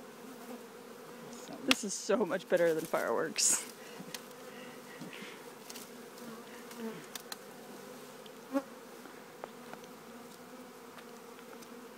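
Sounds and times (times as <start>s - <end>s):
bee buzzing past close by: 0.0s - 11.9s
bee swarm humming: 0.0s - 11.9s.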